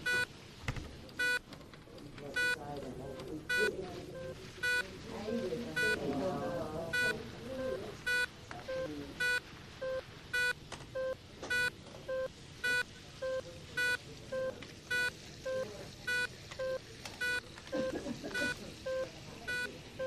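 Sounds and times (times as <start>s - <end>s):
low room noise: 0.0s - 20.0s
electronic medical equipment beeping: 1.2s - 1.5s, 2.3s - 20.0s.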